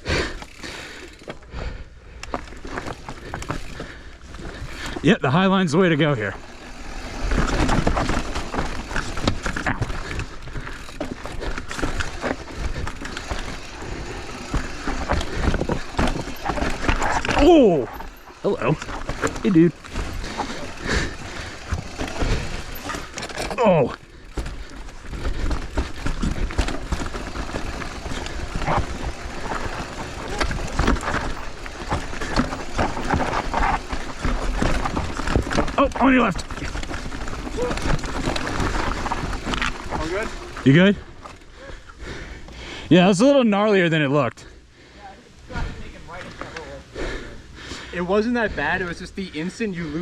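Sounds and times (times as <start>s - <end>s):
bike rattling over rocks: 0.1s - 1.5s, 2.2s - 42.6s.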